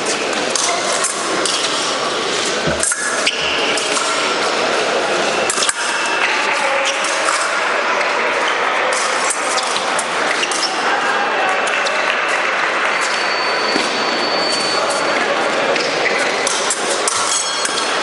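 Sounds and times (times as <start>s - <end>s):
fencing hall din: 0.0s - 18.0s.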